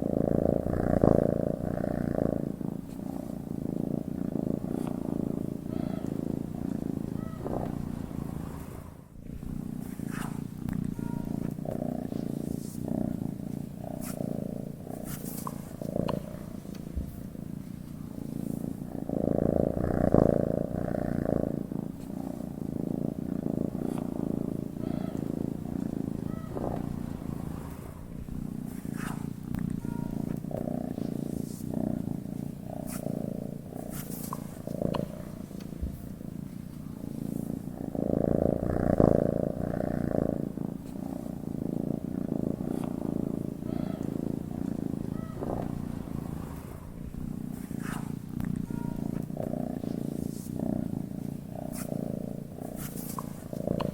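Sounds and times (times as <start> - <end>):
cat purring: 0.0 - 53.9.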